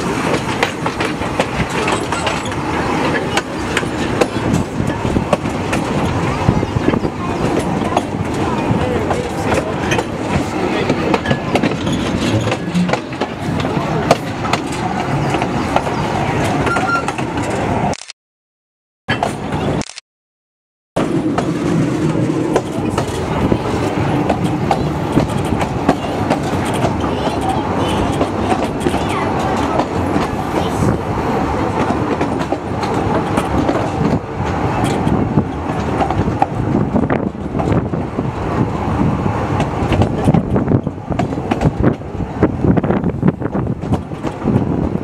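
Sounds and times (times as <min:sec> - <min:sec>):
train wheels rumbling on rails: 0:00.0 - 0:18.0, 0:19.1 - 0:19.8, 0:21.0 - 0:45.0.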